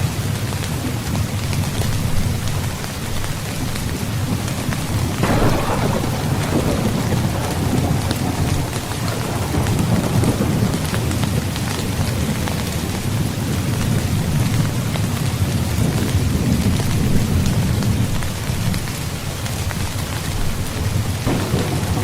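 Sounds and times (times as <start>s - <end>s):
heavy rain: 0.0s - 22.0s
thunder rumbling: 1.8s - 18.9s, 19.8s - 22.0s.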